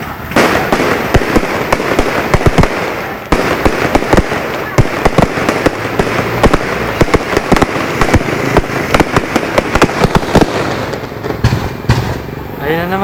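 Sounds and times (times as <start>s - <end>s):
fireworks bangs and pops: 0.0s - 13.0s
fireworks crackling: 0.0s - 13.0s.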